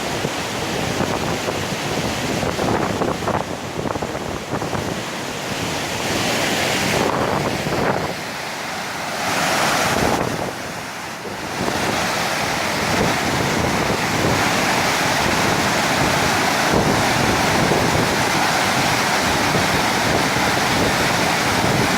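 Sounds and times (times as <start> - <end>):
floodwater rushing: 0.0 - 21.9
wind buffeting microphone: 0.0 - 21.9.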